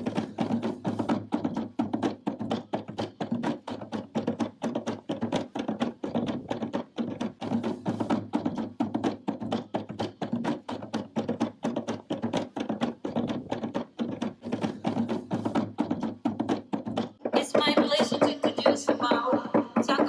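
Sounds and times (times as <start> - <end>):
fast percussion music: 0.0 - 20.0.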